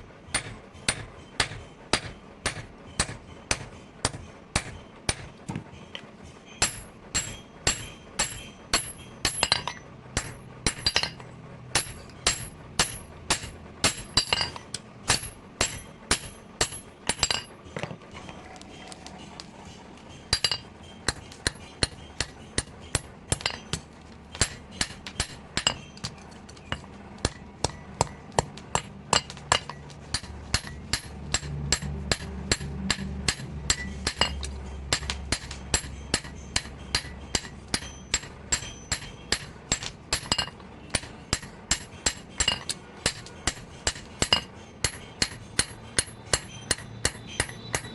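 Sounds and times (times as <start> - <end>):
hammer striking steel: 0.0 - 18.4, 19.0 - 47.9.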